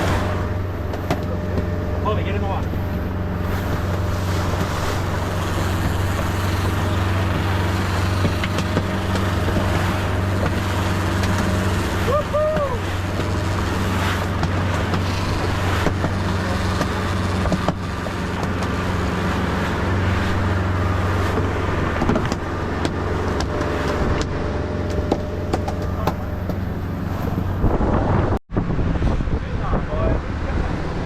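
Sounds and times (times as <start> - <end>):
boat engine humming: 0.0 - 31.0
wind and water rushing: 0.0 - 31.0.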